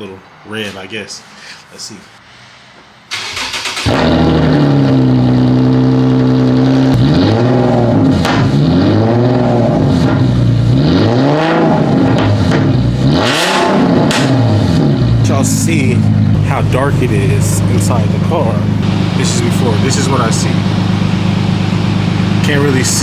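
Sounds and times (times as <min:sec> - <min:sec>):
car engine idling: 0:03.1 - 0:10.9, 0:11.8 - 0:23.0
car engine cranking and starting: 0:03.1 - 0:23.0
short engine revs: 0:03.1 - 0:23.0.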